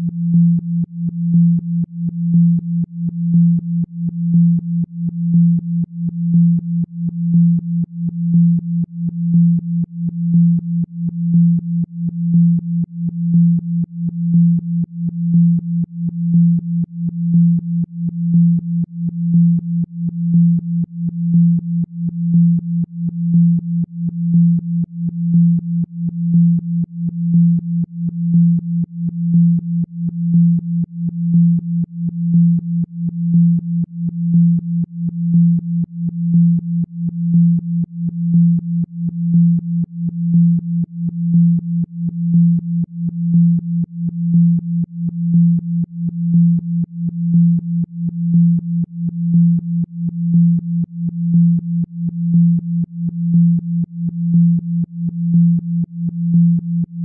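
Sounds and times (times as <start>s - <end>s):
pulsing low synthesized tone: 0.0s - 57.0s.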